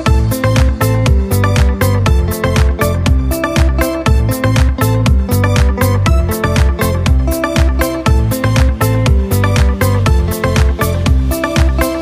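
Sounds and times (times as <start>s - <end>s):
bass line: 0.0s - 12.0s
instrumental music with drum beat: 0.0s - 12.0s.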